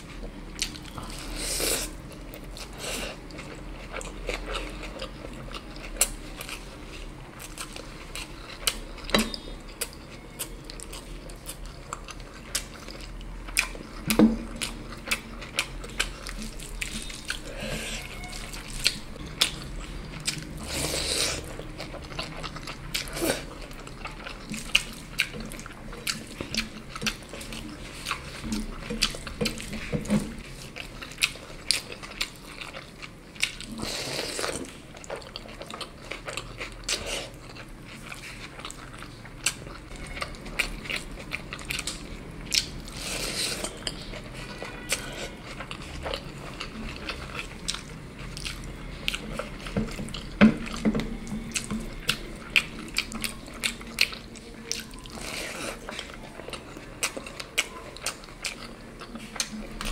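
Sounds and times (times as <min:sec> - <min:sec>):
person chewing and biting food: 0:07.4 - 0:59.9.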